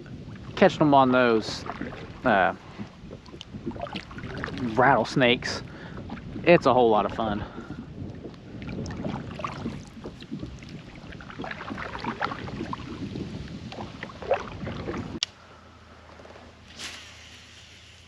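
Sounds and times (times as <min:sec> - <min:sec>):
water splashing around kayak: 0:00.0 - 0:18.0
wind rumbling on microphone: 0:00.0 - 0:18.0.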